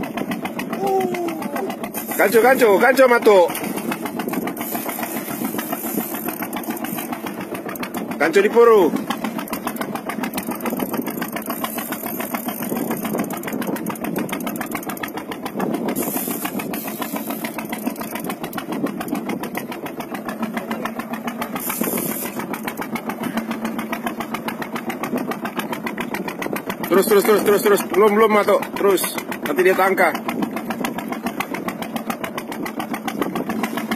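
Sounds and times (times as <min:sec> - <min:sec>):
boat engine idling: 0:00.0 - 0:33.9.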